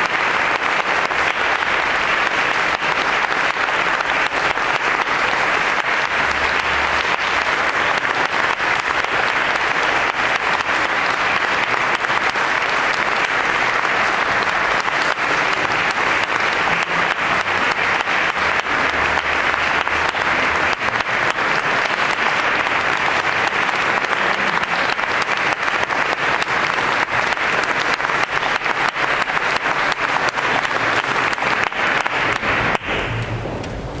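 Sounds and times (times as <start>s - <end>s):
audience applauding: 0.0s - 34.0s.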